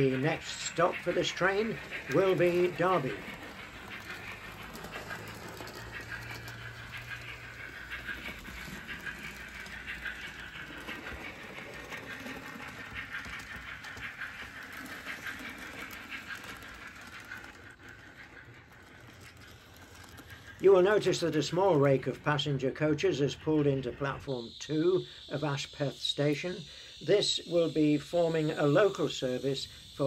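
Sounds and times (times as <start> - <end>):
model train steam engine sound: 0.0 - 30.0
wheels clicking on model track: 0.0 - 30.0.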